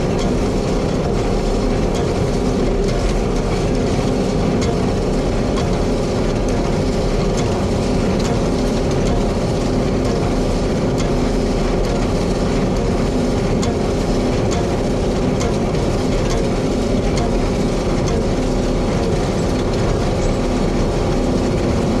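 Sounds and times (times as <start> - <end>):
machinery clatter: 0.0 - 22.0
tractor engine running: 0.0 - 22.0.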